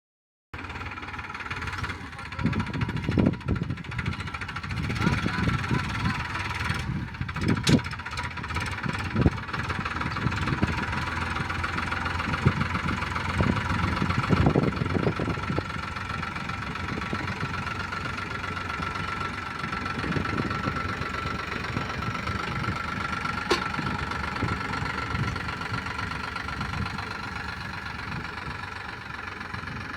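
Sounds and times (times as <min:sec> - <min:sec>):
tractor engine running: 0:00.6 - 0:29.9.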